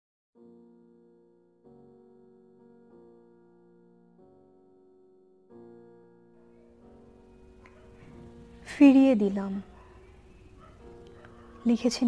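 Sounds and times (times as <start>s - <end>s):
sustained keyboard chords: 0.4s - 12.0s.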